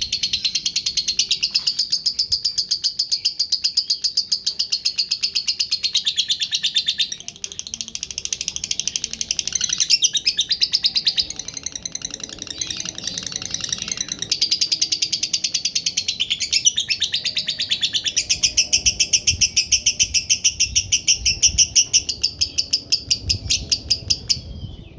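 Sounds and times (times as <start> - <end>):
bird trilling rapid chirps: 0.0 - 24.8.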